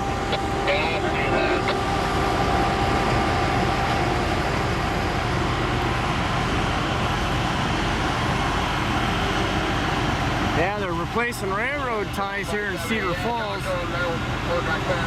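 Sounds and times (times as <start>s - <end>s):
track equipment moving along rails: 0.0s - 15.0s.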